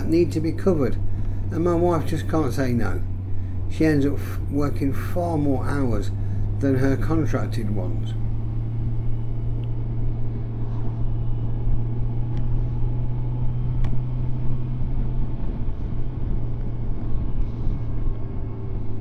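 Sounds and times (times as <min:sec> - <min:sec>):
motorcycle engine cruising: 0:00.0 - 0:19.0
road rumble: 0:00.0 - 0:19.0
wind: 0:00.0 - 0:19.0.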